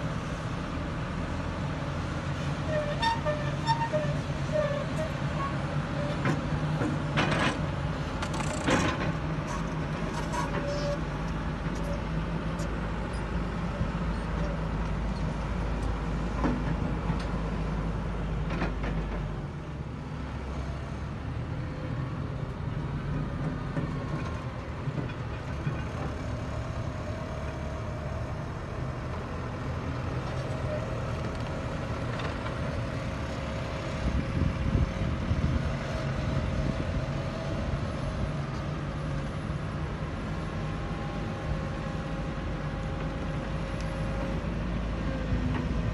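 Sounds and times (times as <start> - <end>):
excavator diesel engines running: 0.0 - 45.9.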